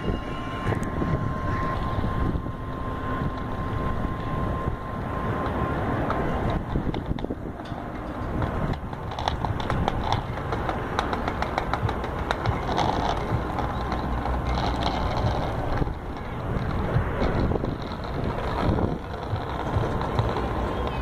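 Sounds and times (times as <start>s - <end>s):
bicycle wheels clicking on planks: 0.0s - 21.0s
low rumble: 0.0s - 21.0s.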